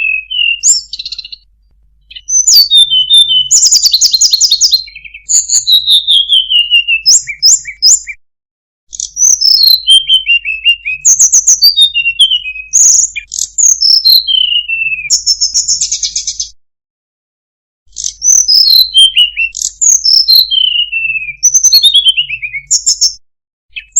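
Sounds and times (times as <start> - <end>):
songbird singing: 0.0 - 8.2, 8.9 - 16.5, 17.9 - 23.9.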